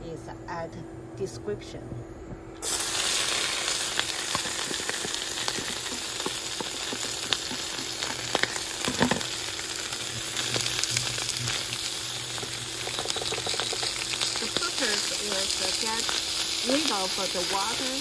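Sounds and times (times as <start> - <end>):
meat sizzling in oil: 2.6 - 18.0
oil popping: 2.6 - 18.0.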